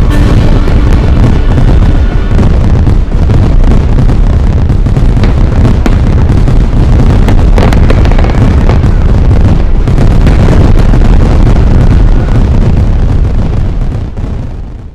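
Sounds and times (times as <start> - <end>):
fireworks booms and crackles: 0.0 - 14.9.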